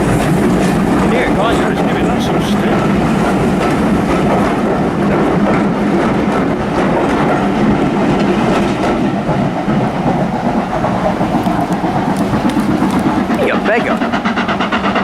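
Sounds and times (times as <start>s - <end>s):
train locomotive pulling away: 0.0s - 15.0s.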